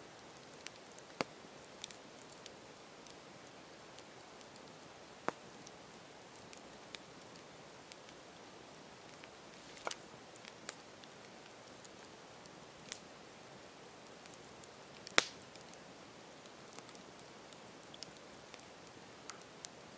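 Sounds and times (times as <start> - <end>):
campfire crackling: 0.0 - 19.9
burning wood popping: 0.2 - 8.2, 8.9 - 13.1, 14.0 - 19.8.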